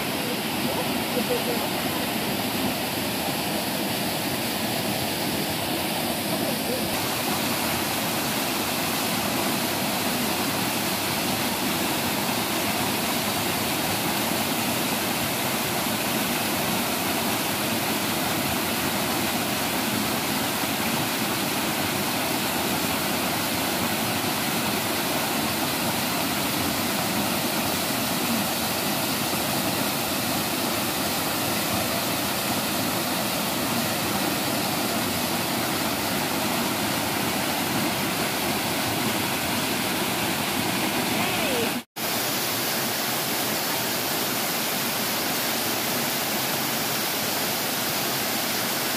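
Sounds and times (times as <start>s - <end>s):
water cascading over rocks: 0.0s - 48.9s.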